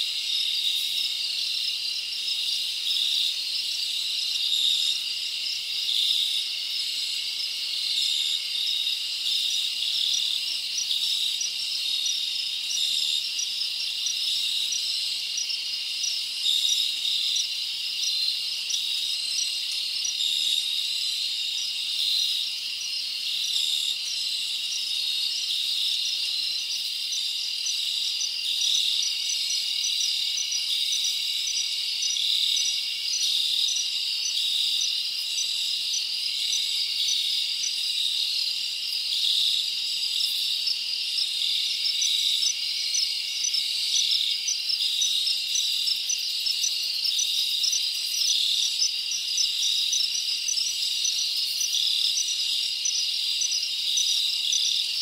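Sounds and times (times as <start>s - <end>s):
chorus of chirping insects: 0.0s - 55.0s.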